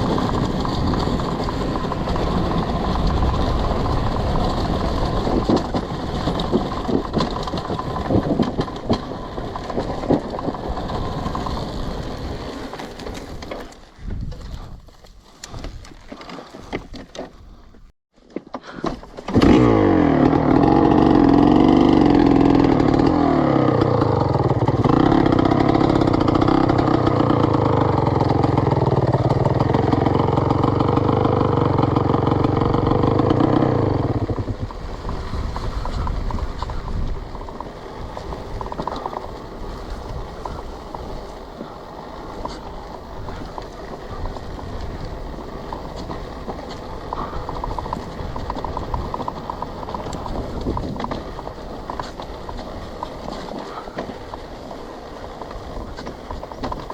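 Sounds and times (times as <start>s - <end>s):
two-stroke motorcycle engine: 0.0s - 14.8s, 15.4s - 56.9s.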